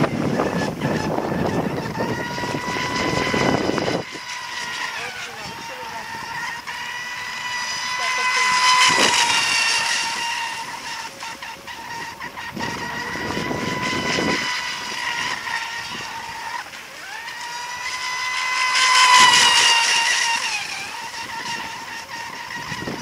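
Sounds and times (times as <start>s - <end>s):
rc boat motor whine: 0.0s - 23.0s.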